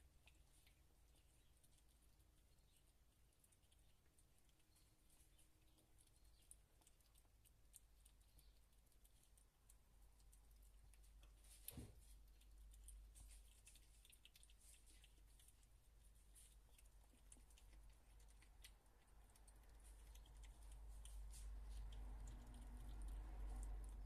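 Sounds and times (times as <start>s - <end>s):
low steady hum: 0.0s - 24.0s
small clicks and ticks: 0.0s - 24.0s.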